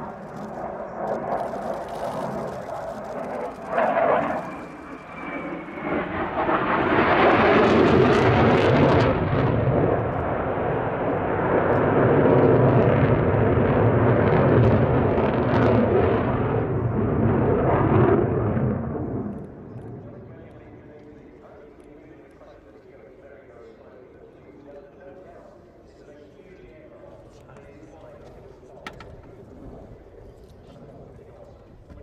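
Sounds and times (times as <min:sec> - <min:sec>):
jet engines roaring overhead: 0:00.0 - 0:32.0.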